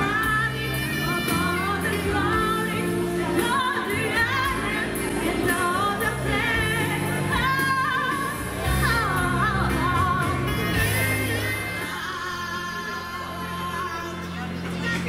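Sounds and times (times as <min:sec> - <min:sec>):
backing track with low bass: 0:00.0 - 0:15.0
women singing together: 0:00.0 - 0:15.0.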